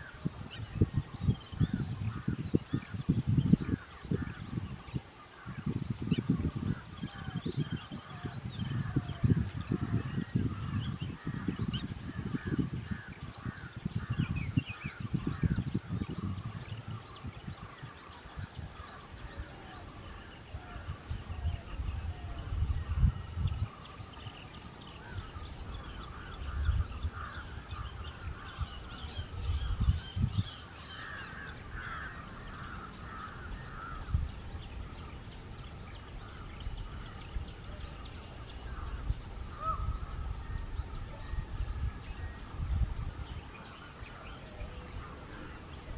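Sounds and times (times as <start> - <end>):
birds chirping and calling: 0.0 - 45.9
wind gusts on microphone: 0.0 - 45.9.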